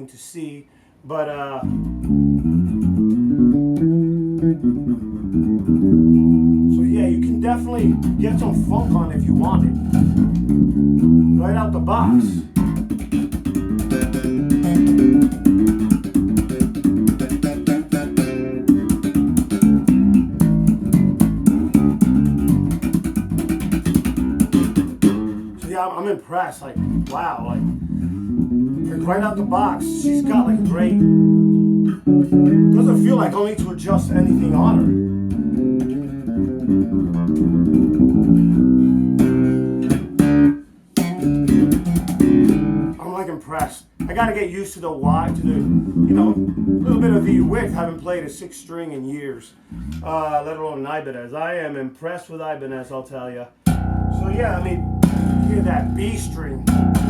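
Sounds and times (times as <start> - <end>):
bass guitar short notes: 1.6 - 25.8, 26.7 - 43.0, 45.0 - 48.1, 49.7 - 50.4, 53.6 - 57.0.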